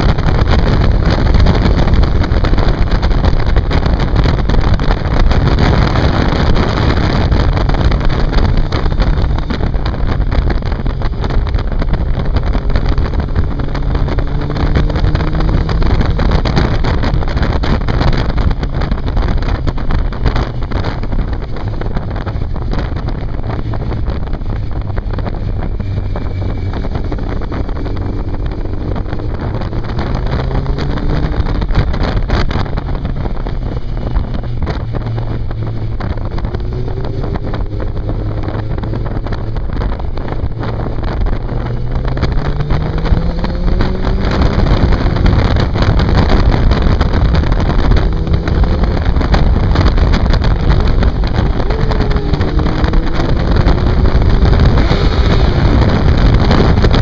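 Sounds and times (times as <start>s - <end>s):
motorcycle engine revving: 0.0s - 57.0s
wind buffeting on microphone: 0.0s - 57.0s.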